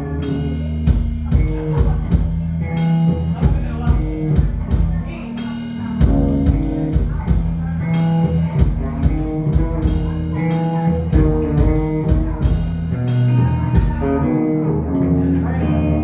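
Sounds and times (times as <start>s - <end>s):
steady drum beat: 0.0s - 14.5s
electric guitars: 0.0s - 16.0s.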